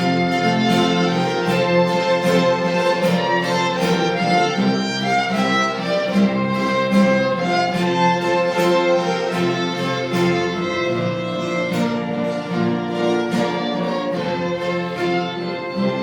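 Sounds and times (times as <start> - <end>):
slow violin-led string music: 0.0 - 16.0.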